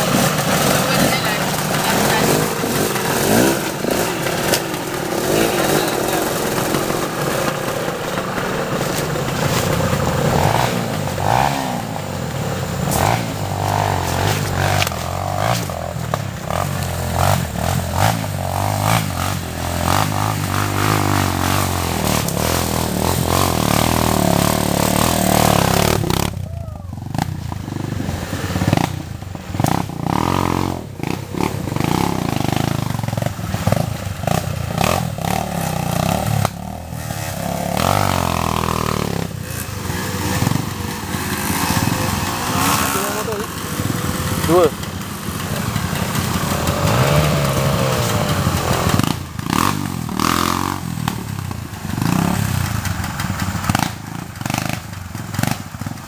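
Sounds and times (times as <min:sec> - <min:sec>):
dirt bike engine revving: 0:00.0 - 0:56.0
steady rushing noise: 0:00.0 - 0:56.0.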